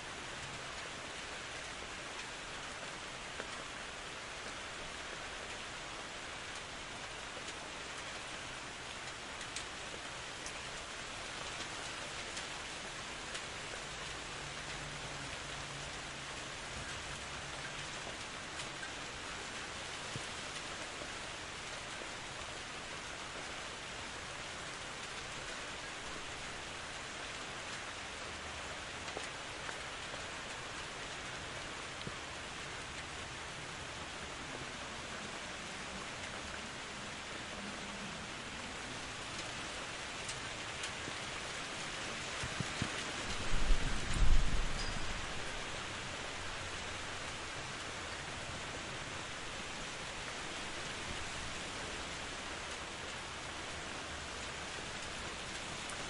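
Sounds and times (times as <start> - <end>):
steady rain falling: 0.0 - 56.0
raindrops ticking: 0.1 - 56.0.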